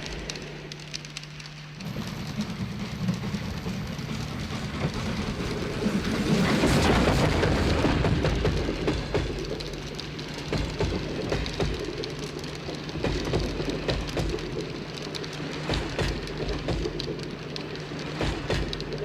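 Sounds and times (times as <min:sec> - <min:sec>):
model train humming: 0:00.0 - 0:19.0.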